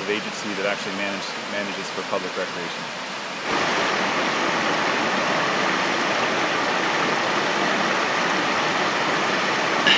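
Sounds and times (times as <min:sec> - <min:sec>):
creek water rushing over rocks: 0:00.0 - 0:09.9.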